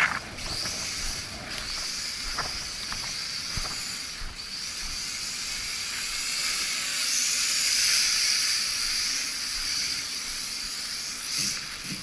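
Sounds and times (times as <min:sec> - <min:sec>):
toy drone propellers buzzing: 0:00.0 - 0:12.0.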